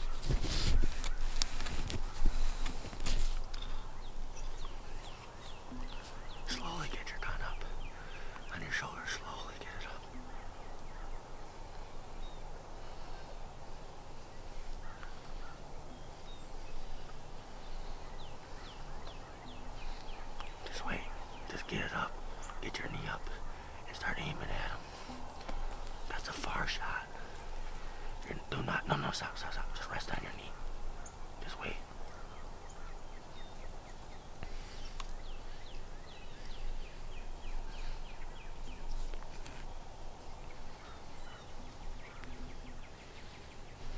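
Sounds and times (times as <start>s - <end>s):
steady outdoor noise: 0.0s - 43.9s
faint bird chirps: 3.5s - 43.9s.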